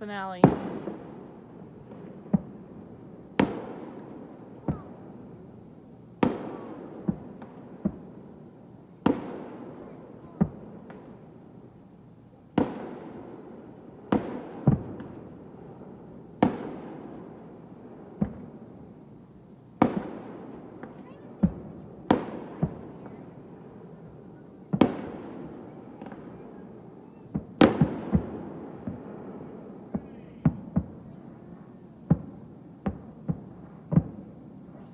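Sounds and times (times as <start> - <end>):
fireworks bangs echoing: 0.0 - 11.5, 12.5 - 19.2, 19.8 - 34.9.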